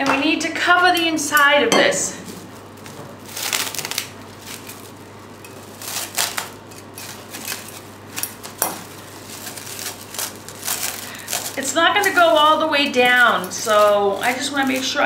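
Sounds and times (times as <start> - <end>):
cling film crinkling: 2.4 - 15.0.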